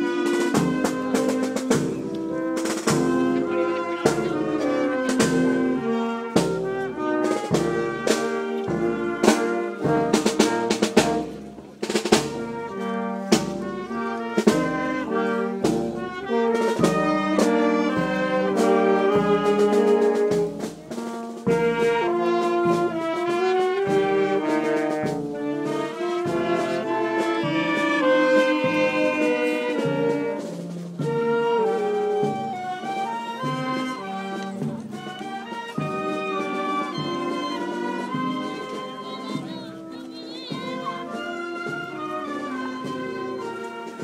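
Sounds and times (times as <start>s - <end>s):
brass band playing march: 0.0s - 44.0s
drum strokes: 0.0s - 44.0s.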